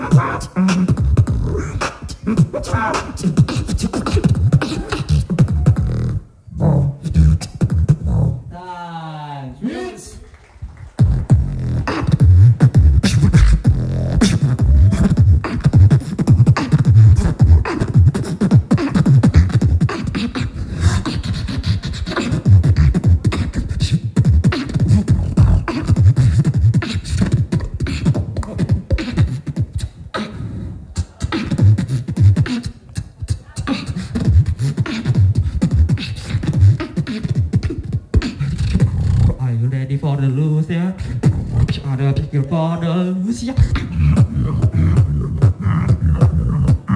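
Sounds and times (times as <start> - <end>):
beatboxing into microphone: 0.0 - 8.5, 9.8 - 46.9.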